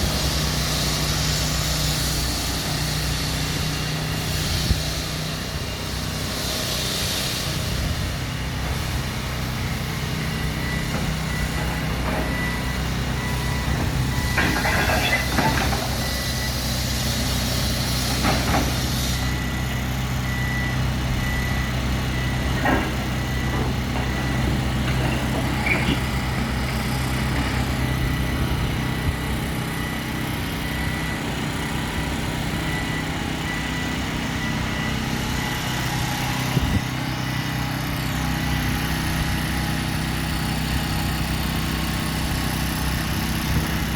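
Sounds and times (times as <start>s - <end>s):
heavy machine engine running: 0.0s - 43.9s.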